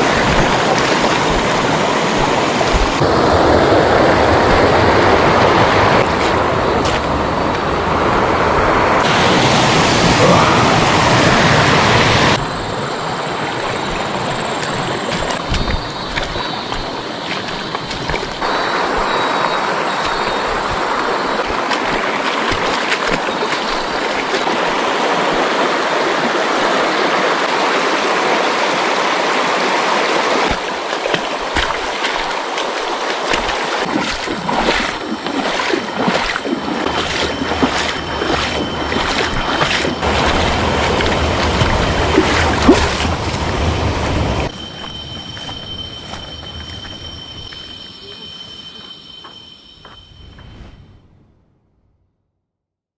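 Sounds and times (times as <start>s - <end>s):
stream rushing over stones: 0.0s - 47.6s.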